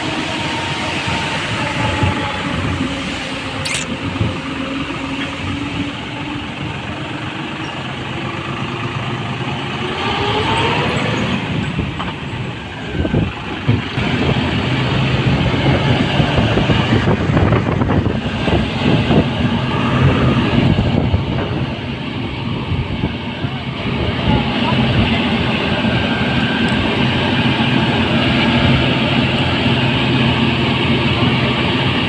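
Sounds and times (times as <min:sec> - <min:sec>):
tractor diesel engine revving: 0:00.0 - 0:32.0.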